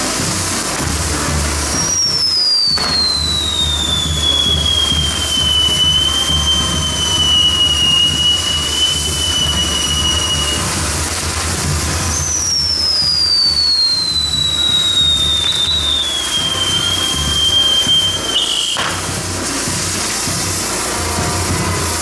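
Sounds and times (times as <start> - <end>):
firework wheel hissing: 0.0 - 22.0
shrill firework whistle: 0.0 - 22.0.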